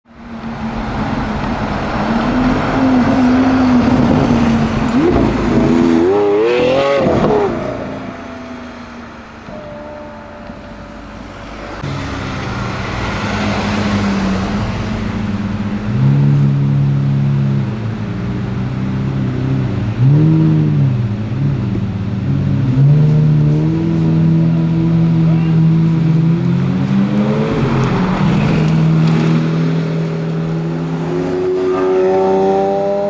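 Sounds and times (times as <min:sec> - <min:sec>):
car engine revving: 0:00.4 - 0:08.7, 0:09.5 - 0:33.0.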